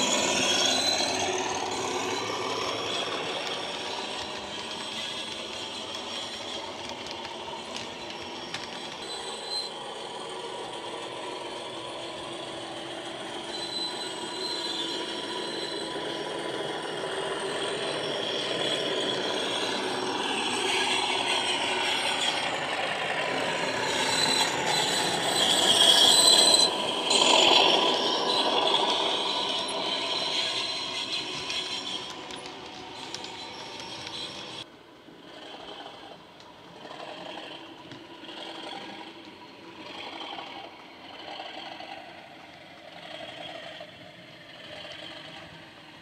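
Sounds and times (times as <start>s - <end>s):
model train diesel engine sound: 0.0s - 46.0s.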